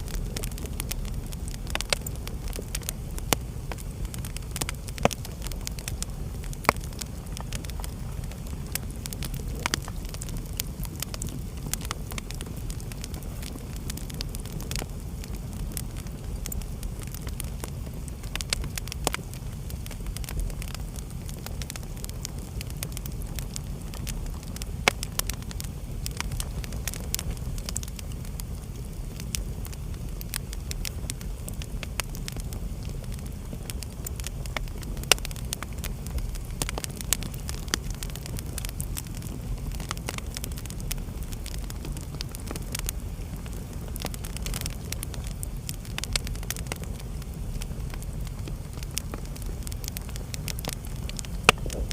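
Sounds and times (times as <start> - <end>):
fire crackling and popping: 0.0 - 51.9
rumble of fire flames: 0.0 - 51.9.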